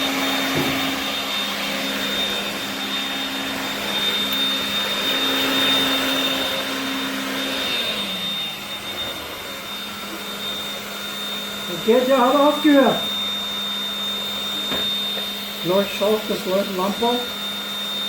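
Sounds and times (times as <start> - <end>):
stick vacuum cleaners whining: 0.0 - 18.0
vacuum motor winding down: 0.0 - 18.0.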